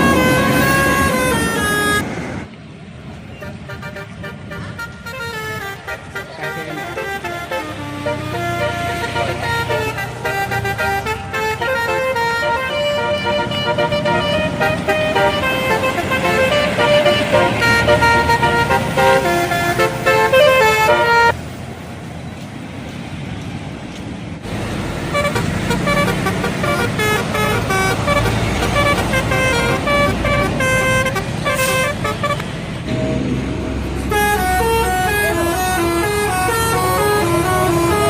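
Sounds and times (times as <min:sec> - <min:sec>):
bus horns playing melodic runs: 0:00.0 - 0:02.4, 0:03.3 - 0:21.4, 0:24.5 - 0:38.0
bus engine: 0:00.0 - 0:38.0
street noise: 0:00.0 - 0:38.0.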